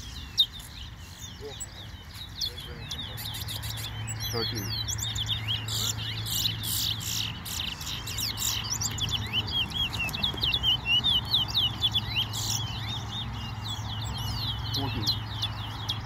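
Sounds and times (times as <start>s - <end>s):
songbird singing quick chirps: 0.0s - 16.0s.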